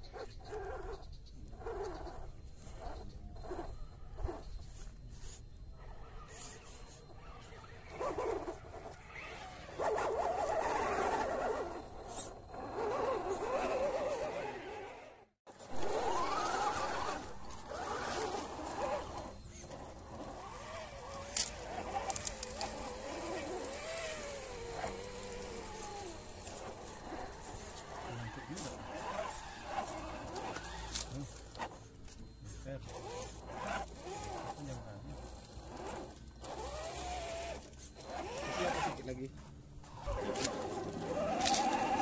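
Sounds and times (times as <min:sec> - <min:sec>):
electric motor and gears whining: 0:00.0 - 0:42.0.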